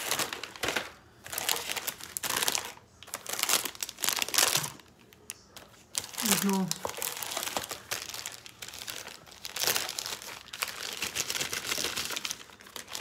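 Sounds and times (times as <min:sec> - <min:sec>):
snack packaging crinkling: 0:00.0 - 0:13.0.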